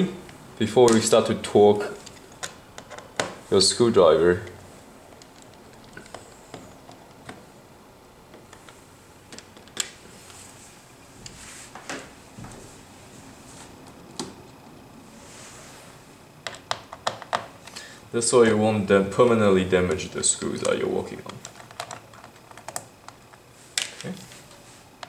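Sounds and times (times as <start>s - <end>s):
faint room noise: 0.0s - 25.0s.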